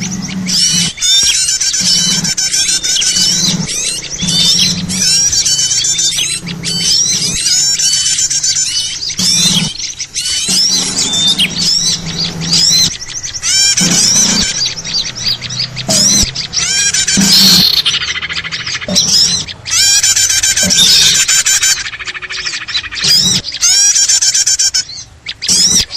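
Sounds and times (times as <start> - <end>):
small birds chirping in chorus: 0.0 - 25.9.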